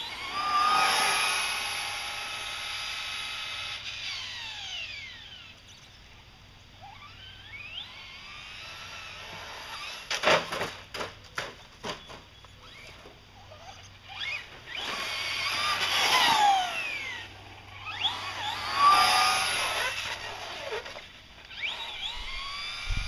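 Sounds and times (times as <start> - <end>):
electric motor whining: 0.0 - 6.0, 6.8 - 10.2, 12.5 - 23.0.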